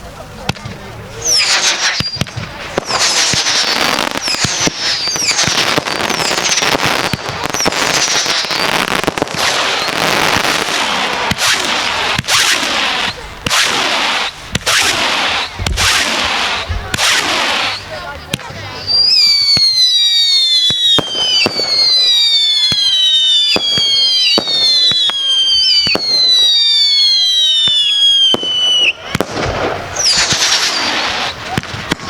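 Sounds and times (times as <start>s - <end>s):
fireworks bangs and crackling: 0.0s - 32.0s
fireworks whistling: 0.0s - 32.0s.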